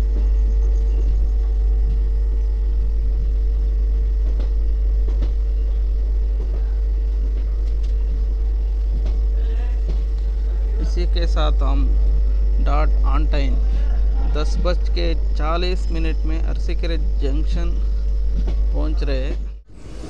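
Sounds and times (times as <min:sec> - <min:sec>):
train coach rumbling: 0:00.0 - 0:20.0.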